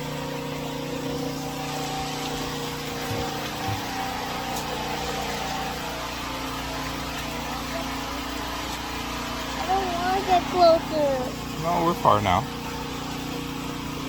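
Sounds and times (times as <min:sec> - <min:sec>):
machine hum with steady tones: 0:00.0 - 0:14.0.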